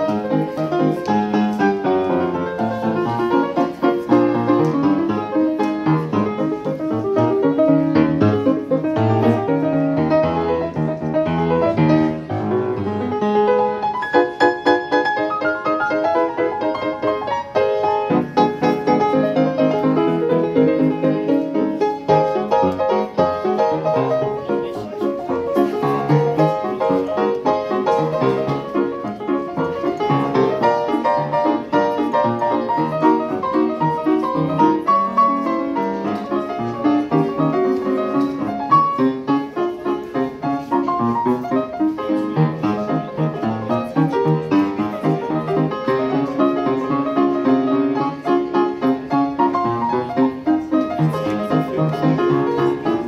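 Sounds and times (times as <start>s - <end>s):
lively solo piano piece: 0.0s - 53.0s.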